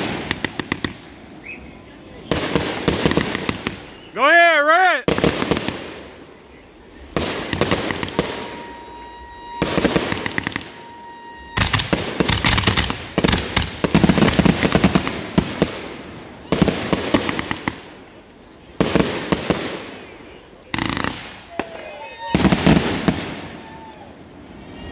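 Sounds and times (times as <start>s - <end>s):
firework volleys crackling: 0.0s - 24.9s.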